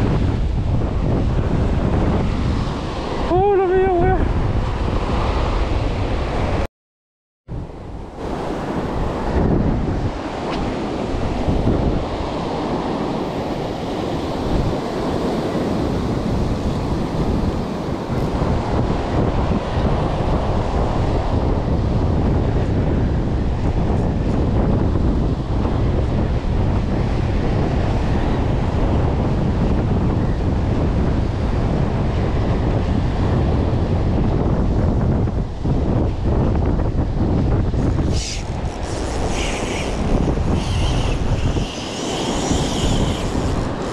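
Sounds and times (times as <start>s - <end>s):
surf on rocky shore: 0.0s - 6.7s, 7.6s - 43.9s
wind rumbling on microphone: 0.0s - 6.7s, 7.5s - 43.9s.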